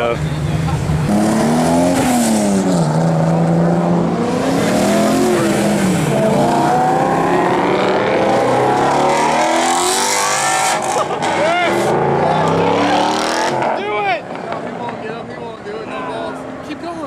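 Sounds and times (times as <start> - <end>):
car engine revving hard: 0.6 - 14.4.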